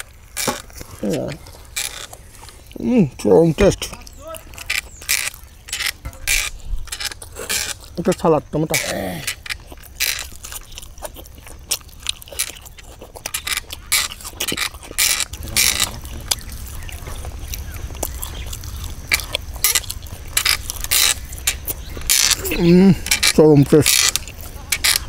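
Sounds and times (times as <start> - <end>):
chewing and mouth smacking: 0.0 - 25.0.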